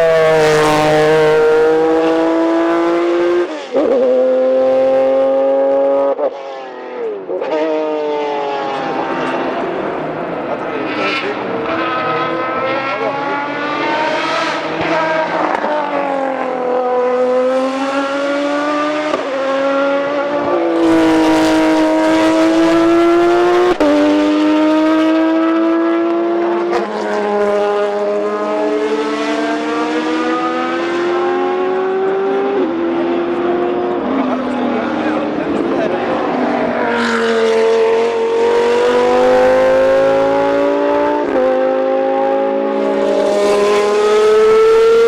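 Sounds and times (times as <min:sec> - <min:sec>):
race car engine at full throttle: 0:00.0 - 0:45.0.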